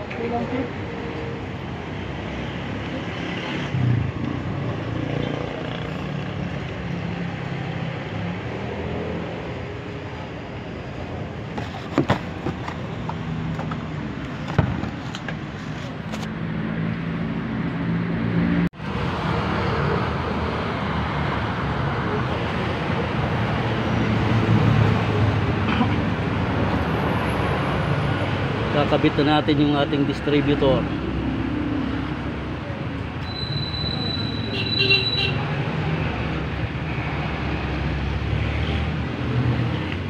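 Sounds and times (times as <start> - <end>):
passing traffic: 0.0 - 40.0.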